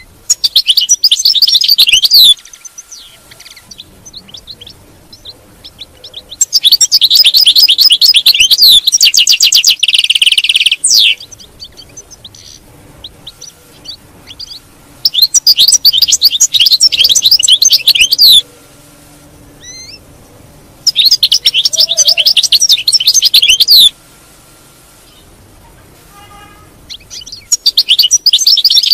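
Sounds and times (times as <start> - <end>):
goldfinch twittering song: 0.0 - 18.4, 19.6 - 20.1, 20.8 - 23.9, 26.8 - 28.9
bird call notes: 0.0 - 18.8, 19.6 - 20.1, 20.8 - 24.0, 26.2 - 28.9.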